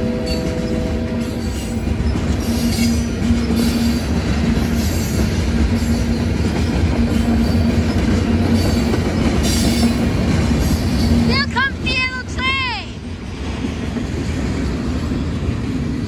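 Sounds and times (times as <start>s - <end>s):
clickety-clack of rail joints: 0.0s - 16.0s
freight train wheels rumbling: 0.0s - 16.0s.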